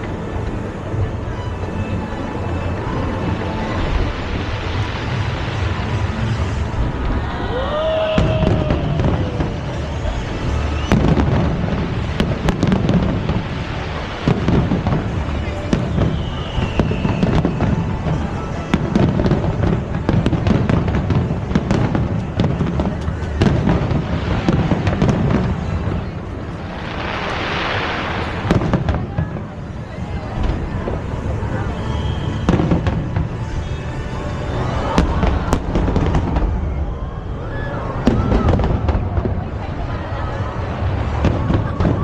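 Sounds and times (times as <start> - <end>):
music playing: 0.0 - 38.6
continuous low rumble: 0.0 - 42.0
fireworks bangs and crackles: 0.0 - 42.0
firework whistle: 1.1 - 39.3.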